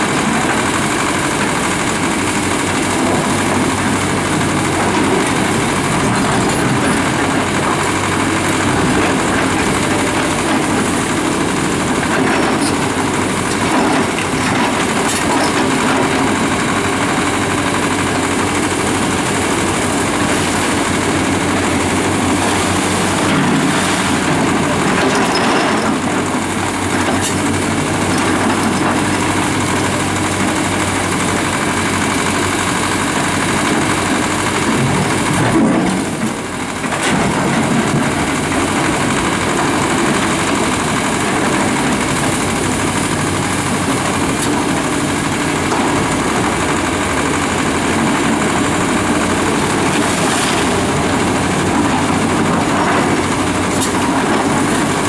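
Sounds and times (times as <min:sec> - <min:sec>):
diesel excavator engines: 0:00.0 - 0:55.0.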